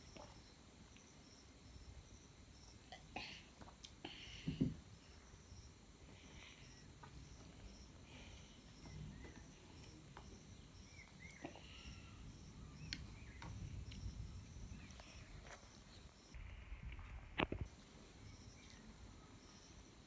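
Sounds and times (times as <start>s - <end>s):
faint chirping: 0.0s - 16.4s, 17.9s - 20.0s.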